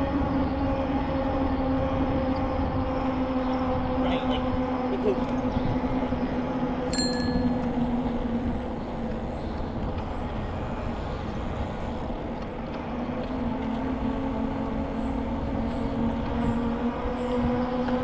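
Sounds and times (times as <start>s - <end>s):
motor vehicle hum: 0.0s - 18.0s
wind rumble on microphone: 0.0s - 18.0s.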